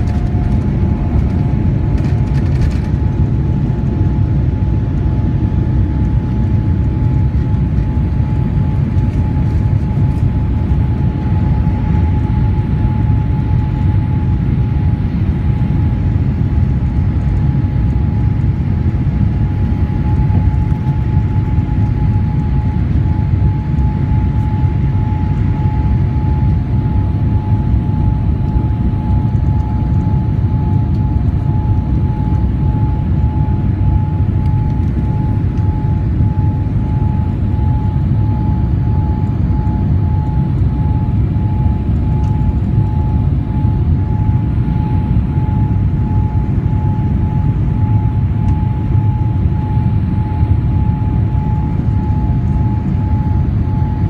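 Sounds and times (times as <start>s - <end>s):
thin engine whine: 0.0s - 17.4s, 19.2s - 54.0s
jet engines low rumble: 0.0s - 54.0s.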